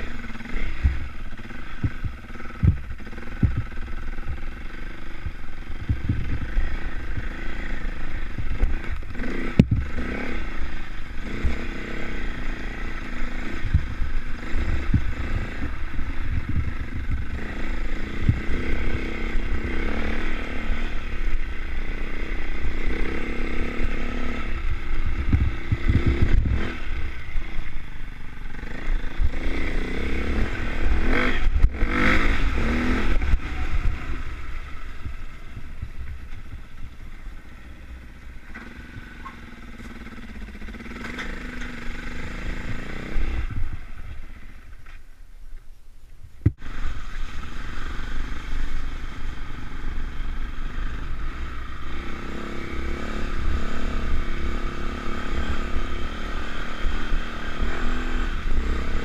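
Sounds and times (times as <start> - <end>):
motorbike engine revving: 0.0 - 44.9, 46.5 - 59.0
wind rumble on microphone: 0.6 - 39.4, 40.0 - 59.0.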